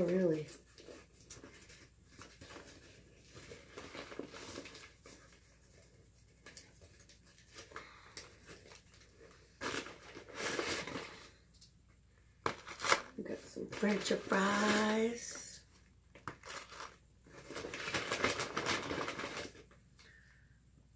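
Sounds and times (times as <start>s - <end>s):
paper bags rustling: 0.0s - 11.4s, 12.5s - 15.6s, 16.2s - 19.8s.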